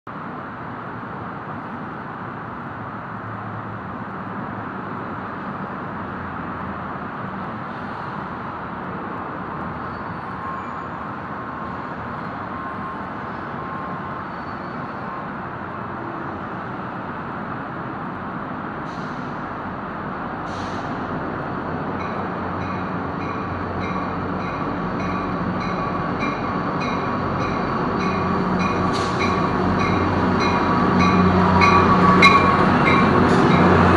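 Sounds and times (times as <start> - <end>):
traffic rumble: 0.1 - 33.9
commuter train approaching: 0.2 - 33.9.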